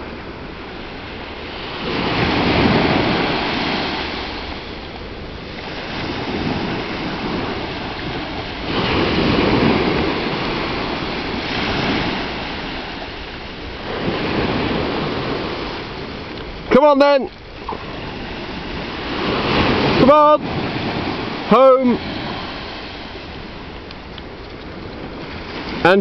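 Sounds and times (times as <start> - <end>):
small waves breaking on shore: 0.0 - 26.0.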